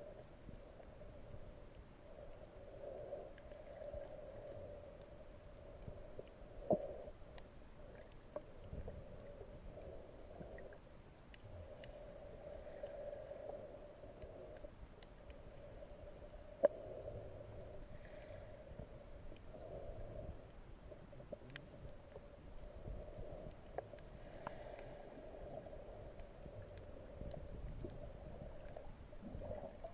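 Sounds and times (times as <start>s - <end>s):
faint underwater clicks: 0.0s - 29.9s
muffled underwater wash: 0.0s - 29.9s.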